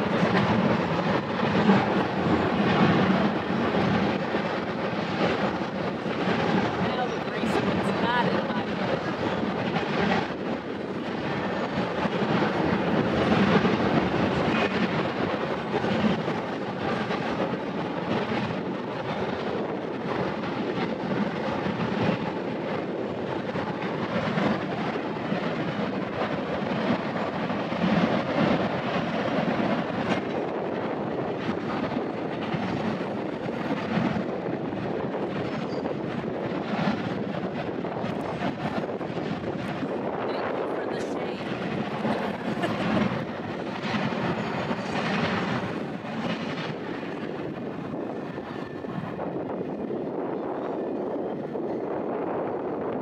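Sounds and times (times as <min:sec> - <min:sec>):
train wheel clicks: 0:00.0 - 0:40.2, 0:41.4 - 0:49.3
freight train rumbling past: 0:00.0 - 0:53.0.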